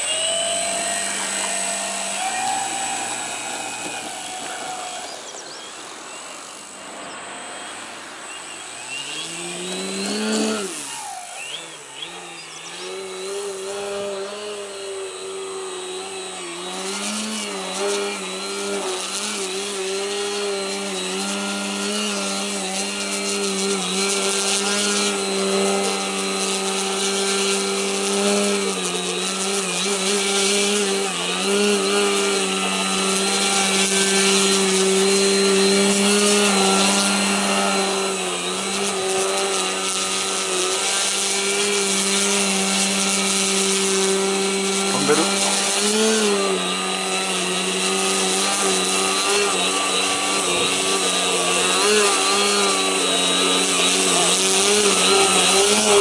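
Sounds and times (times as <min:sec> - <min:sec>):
model airplane propeller buzzing: 0:00.0 - 0:56.0.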